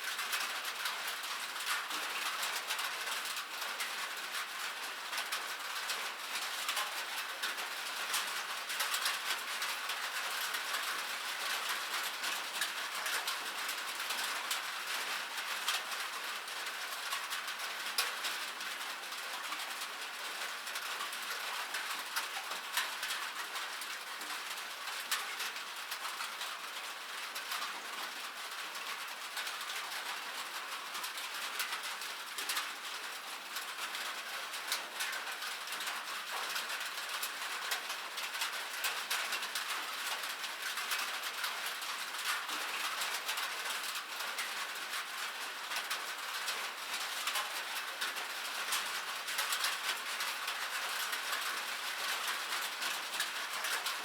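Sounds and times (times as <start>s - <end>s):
rain on metal surface: 0.0s - 54.0s.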